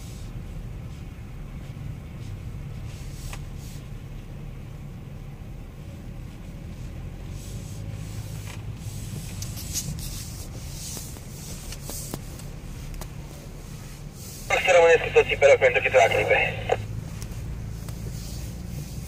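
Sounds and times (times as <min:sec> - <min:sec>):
engine and tyre hum: 0:00.0 - 0:19.0.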